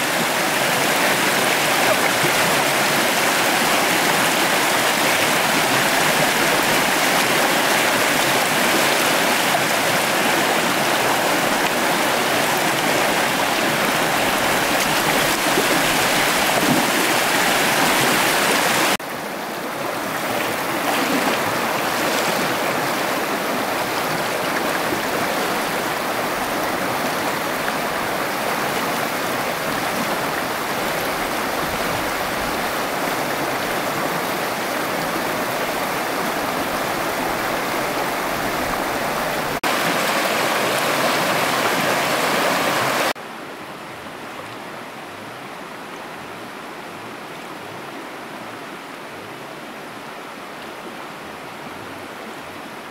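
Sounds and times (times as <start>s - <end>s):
water rushing: 0.0s - 43.2s.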